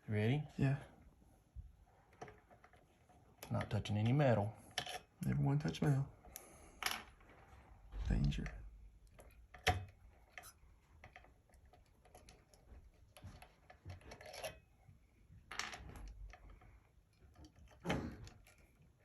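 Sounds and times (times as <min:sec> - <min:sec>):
clicks and rustles of wires: 0:01.9 - 0:19.0.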